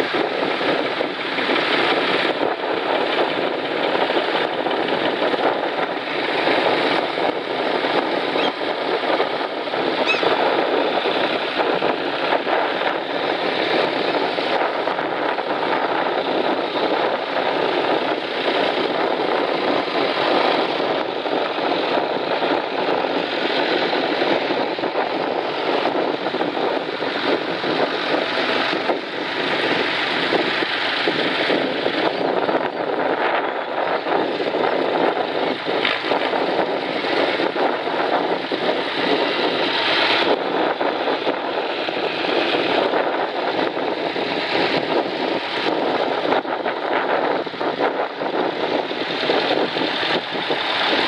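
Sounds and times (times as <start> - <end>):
tractor engines passing: 0.0 - 51.0.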